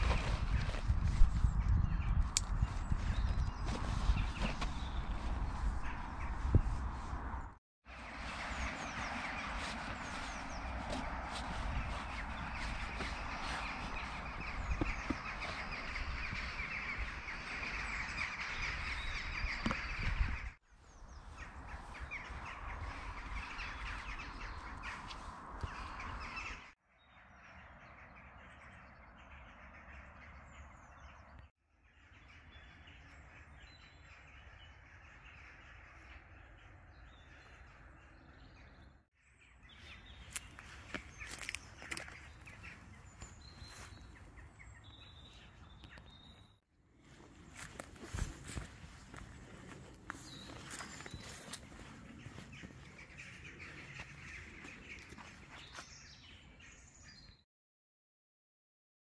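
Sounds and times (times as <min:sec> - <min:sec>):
birds calling: 0:00.0 - 0:57.4.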